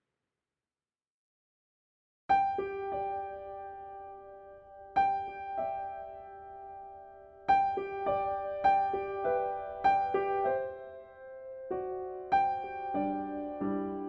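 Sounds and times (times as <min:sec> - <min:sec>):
slow gentle piano music: 0:02.3 - 0:14.0.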